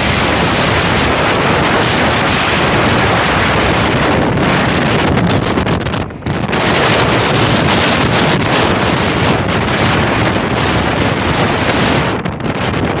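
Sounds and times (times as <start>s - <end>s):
surf crashing on breakwater: 0.0s - 13.0s
wind buffeting microphone: 0.0s - 13.0s.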